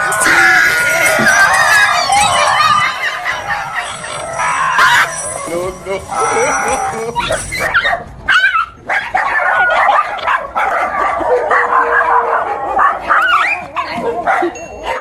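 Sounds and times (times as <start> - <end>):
dog barking and yelping: 0.0 - 15.0.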